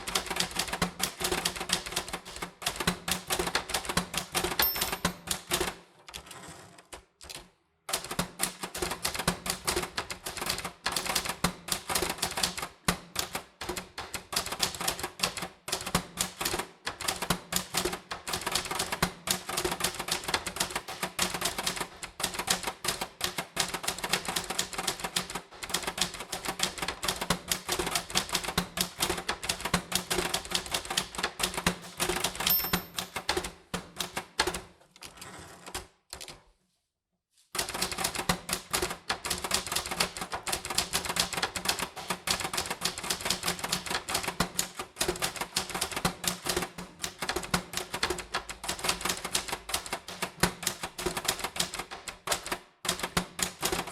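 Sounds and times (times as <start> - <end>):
typewriter keys striking: 0.0 - 6.3, 7.2 - 34.6, 37.6 - 53.9.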